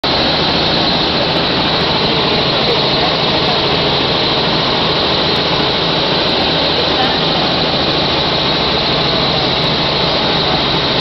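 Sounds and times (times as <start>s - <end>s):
helicopter engine and rotor noise: 0.0s - 11.0s.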